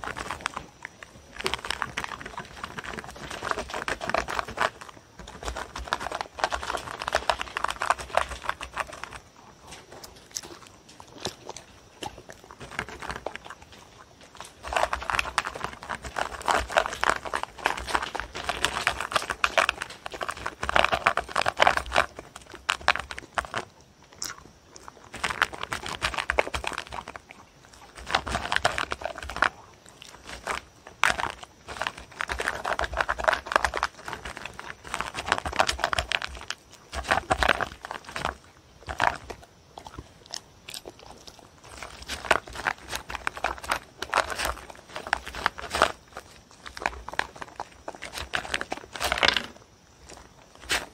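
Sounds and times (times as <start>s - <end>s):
dog chewing food: 0.0s - 50.9s.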